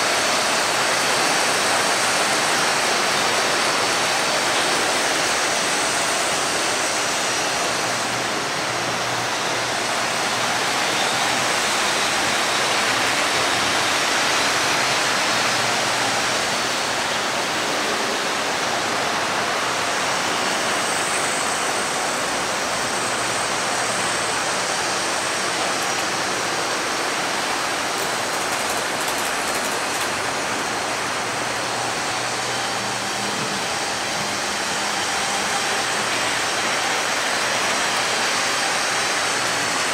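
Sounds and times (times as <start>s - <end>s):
model train wheels rolling on track: 0.0s - 39.9s.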